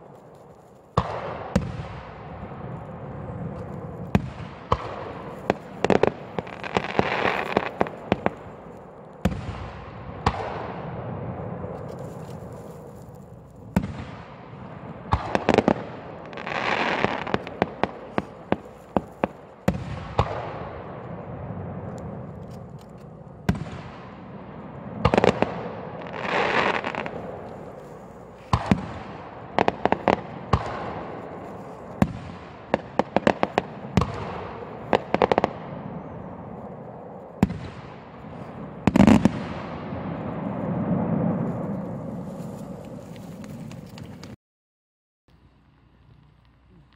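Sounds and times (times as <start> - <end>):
firework shells booming: 0.9 - 42.2.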